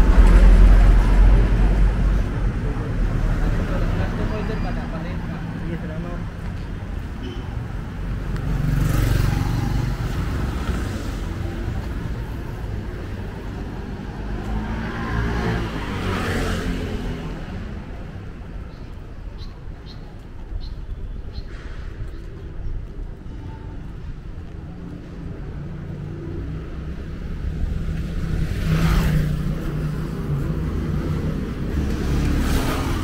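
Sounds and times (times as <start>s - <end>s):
background traffic: 0.0s - 33.0s
vehicles passing close by: 0.0s - 33.0s.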